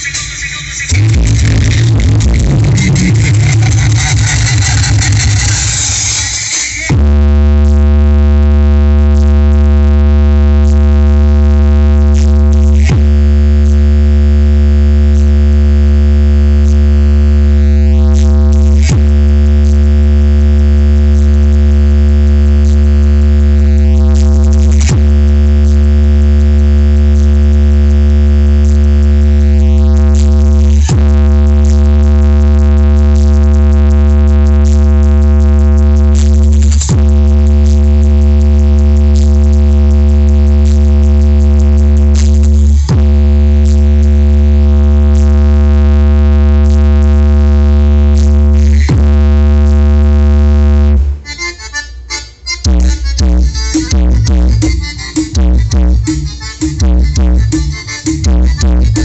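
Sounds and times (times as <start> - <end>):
bass-heavy electronic music: 0.0 - 59.0.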